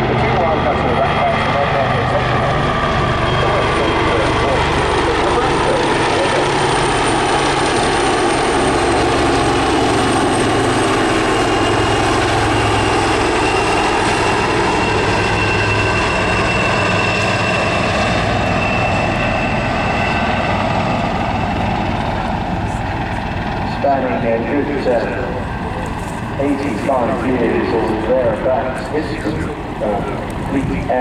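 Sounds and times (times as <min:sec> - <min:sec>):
helicopter rotors and engines droning: 0:00.0 - 0:31.0
high turbine whine: 0:00.0 - 0:31.0.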